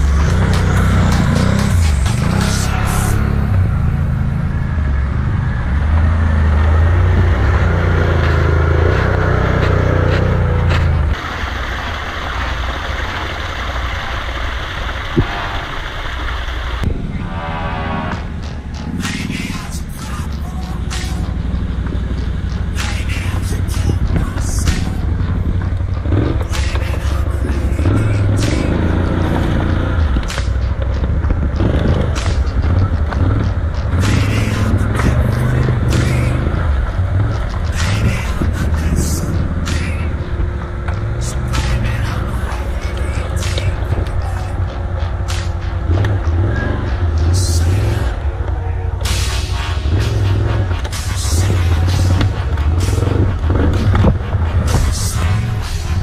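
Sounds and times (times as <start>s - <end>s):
atv engines revving: 0.0s - 56.0s
steady rushing noise: 0.0s - 56.0s.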